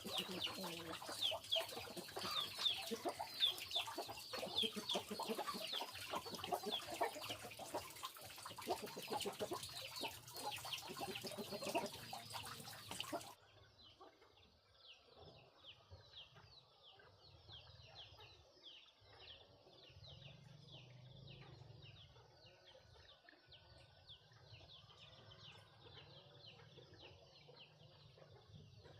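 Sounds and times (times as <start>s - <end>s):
chickens clucking and peeping: 0.0s - 28.9s.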